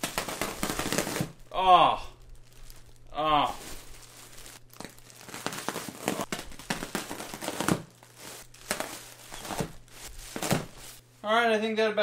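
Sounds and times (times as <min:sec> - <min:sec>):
bubble wrap crackling: 0:00.0 - 0:11.0.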